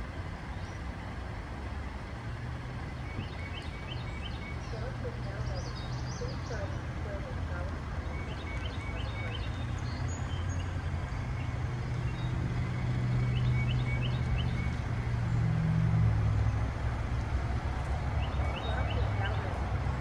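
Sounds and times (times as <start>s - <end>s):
car engine running at low speed: 0.0s - 20.0s
birds chirping: 2.8s - 20.0s.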